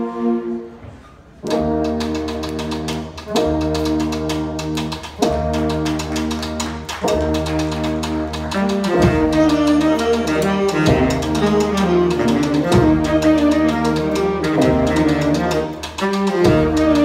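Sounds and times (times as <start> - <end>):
band playing brass chords: 0.0 - 17.0
drum strokes: 1.4 - 17.0.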